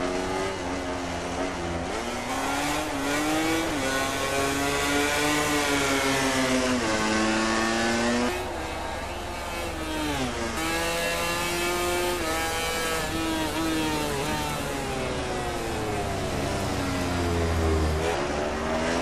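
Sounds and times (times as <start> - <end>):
racing motorcycle engine: 0.0 - 19.0.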